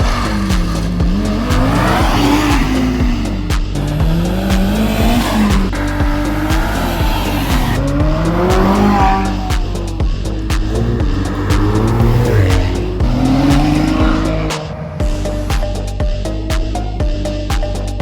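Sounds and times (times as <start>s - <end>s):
car engine revving: 0.0s - 15.9s
music with a steady beat: 0.0s - 18.0s.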